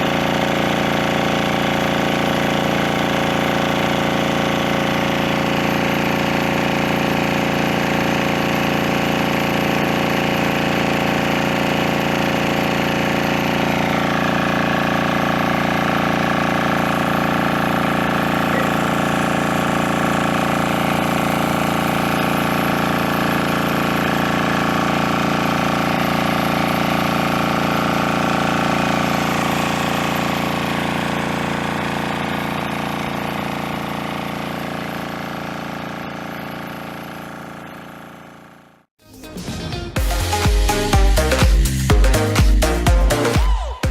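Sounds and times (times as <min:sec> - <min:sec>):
engine-driven water pump running: 0:00.0 - 0:38.9, 0:39.9 - 0:43.9.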